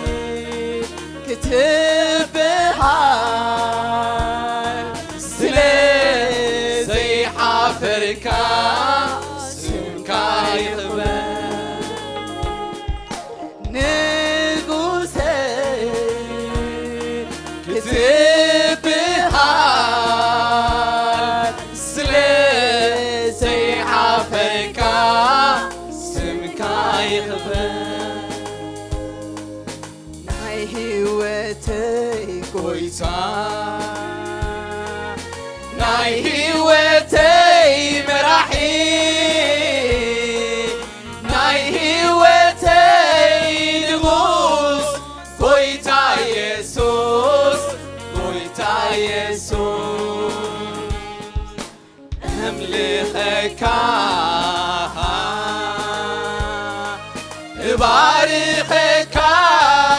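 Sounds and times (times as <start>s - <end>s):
church choir singing gospel: 0.0s - 59.9s
instrumental backing with steady beat: 0.0s - 59.9s.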